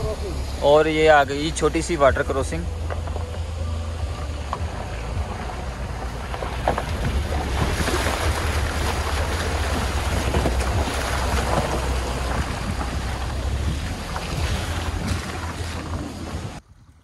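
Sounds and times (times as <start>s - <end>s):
car engine hum: 0.0s - 16.8s
water splashing around tyres: 0.0s - 17.0s
wind buffeting microphone: 0.0s - 17.0s.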